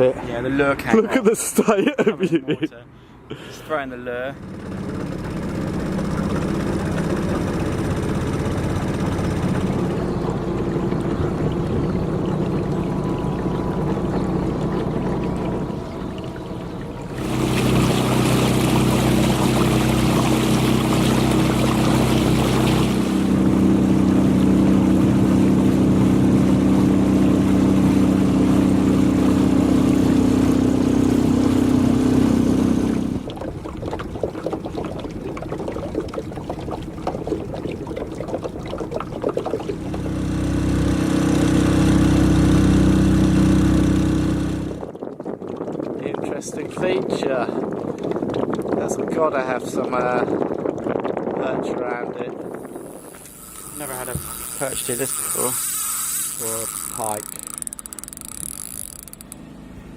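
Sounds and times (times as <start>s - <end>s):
outboard motor running: 2.9s - 59.9s
water splashing against hull: 3.8s - 59.9s.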